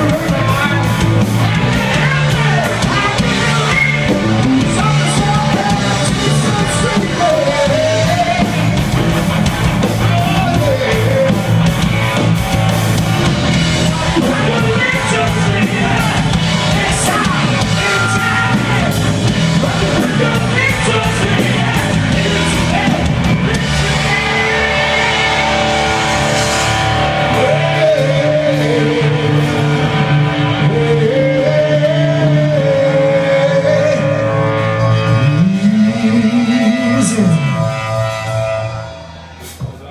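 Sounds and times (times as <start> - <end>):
man singing: 0.0 - 9.2, 9.8 - 11.8, 13.5 - 25.5, 27.2 - 38.3
bass guitar: 0.0 - 39.9
drum kit: 0.0 - 39.9
electric guitars: 0.0 - 39.9.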